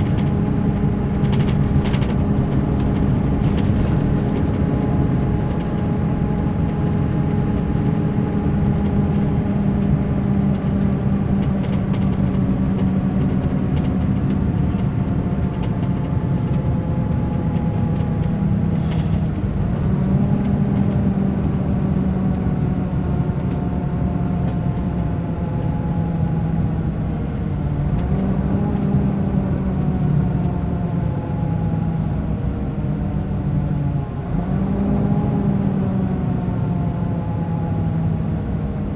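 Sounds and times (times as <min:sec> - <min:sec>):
diesel coach engine running: 0:00.0 - 0:38.9.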